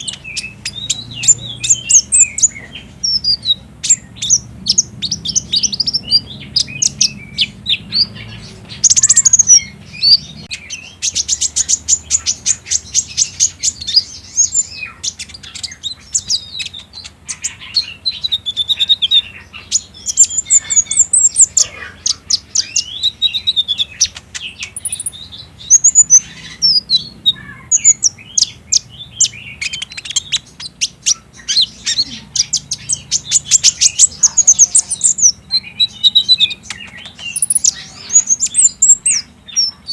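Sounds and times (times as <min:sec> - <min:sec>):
bird trilling high chirps: 0:00.0 - 0:39.9
bird whistled phrases: 0:00.0 - 0:39.9.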